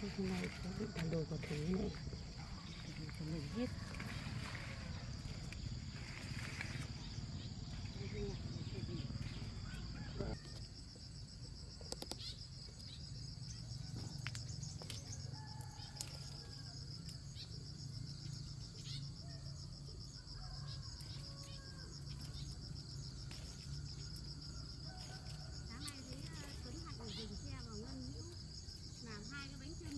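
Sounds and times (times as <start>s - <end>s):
insects trilling: 0.0s - 29.9s.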